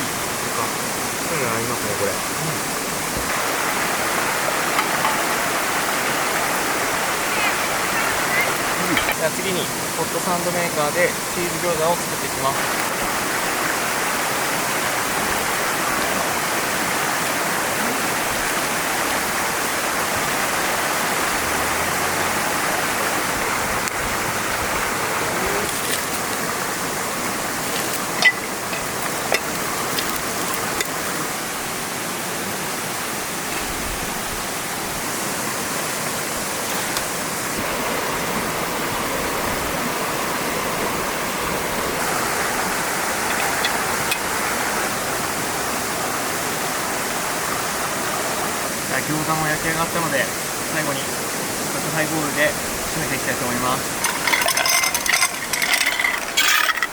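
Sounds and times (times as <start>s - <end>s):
stream rushing over rocks: 0.0s - 56.9s.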